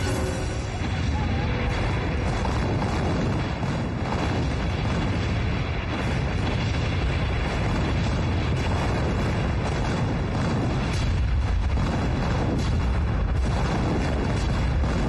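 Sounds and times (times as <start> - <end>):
shell explosions rumbling: 0.0 - 15.0.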